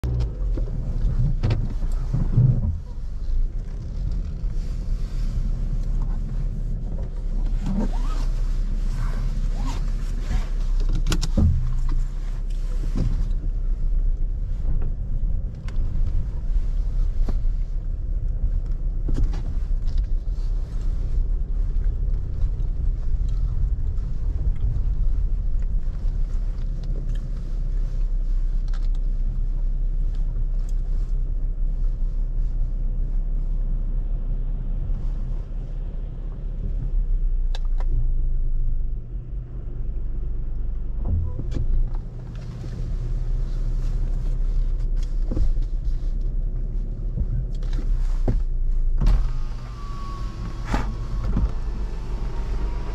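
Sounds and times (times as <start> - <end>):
vehicle engine and road noise: 0.0 - 52.9.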